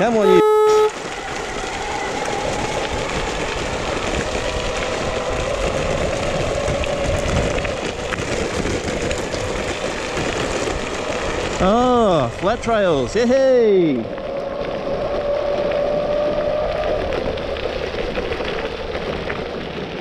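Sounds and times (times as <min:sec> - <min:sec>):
tyres rumbling on gravel: 0:01.0 - 0:20.0.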